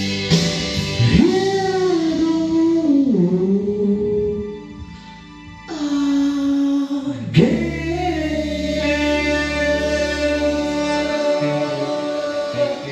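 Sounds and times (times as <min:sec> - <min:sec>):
backing music with bass line: 0:00.0 - 0:12.9
man singing into a microphone: 0:01.0 - 0:04.6, 0:05.7 - 0:12.9.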